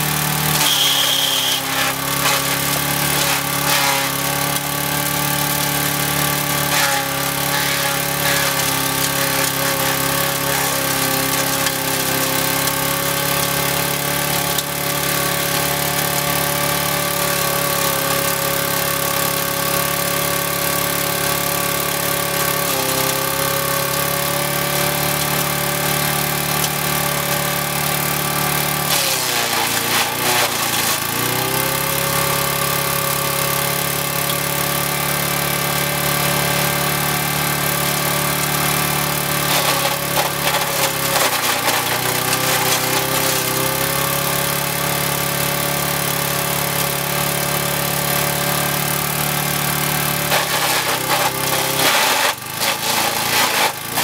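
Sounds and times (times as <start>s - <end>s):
lawn mower engine running: 0.0s - 54.0s
wood shredding: 0.0s - 54.0s.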